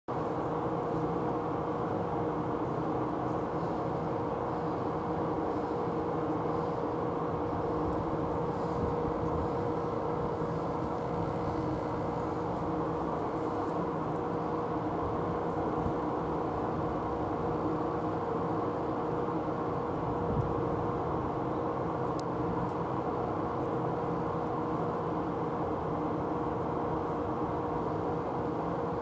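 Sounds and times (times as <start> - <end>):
steady background hum and rumble: 0.1 - 29.0.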